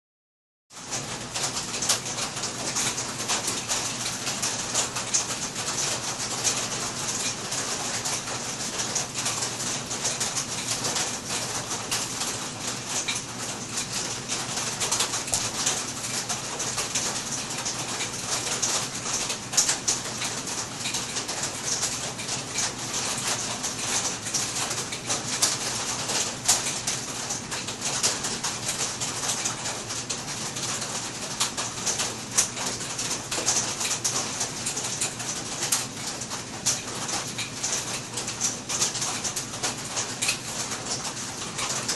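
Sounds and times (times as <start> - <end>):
heavy rain on roof: 0.7 - 41.9.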